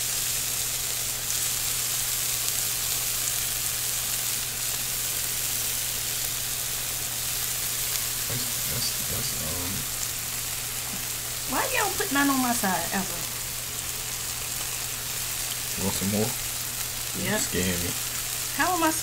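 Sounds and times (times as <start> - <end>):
cheese sizzling on hot stone: 0.0 - 19.0.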